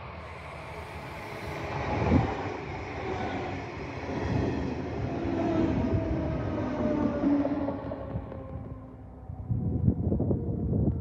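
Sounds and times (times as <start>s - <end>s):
electric train passing: 0.0s - 10.6s.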